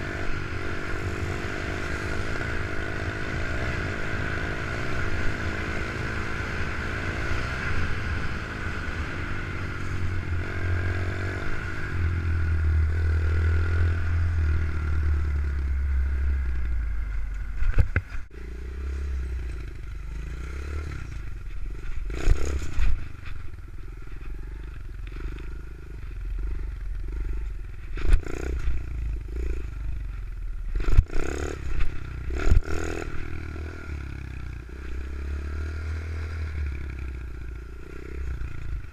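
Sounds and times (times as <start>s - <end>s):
pit bike engine revving: 0.0s - 16.5s, 18.3s - 38.9s.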